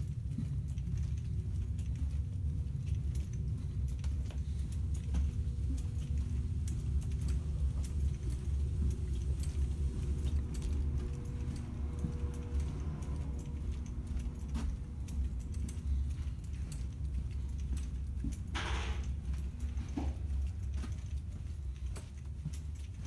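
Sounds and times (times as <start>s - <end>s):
faint steady hum: 0.0s - 23.0s
light clicks and jingles: 0.0s - 23.0s.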